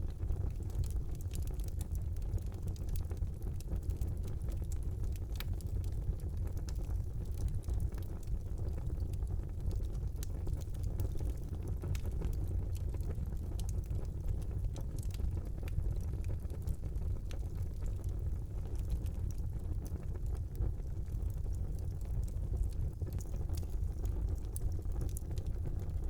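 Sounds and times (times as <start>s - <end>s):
fire burning: 0.0s - 26.0s
fire crackling and popping: 0.0s - 26.0s.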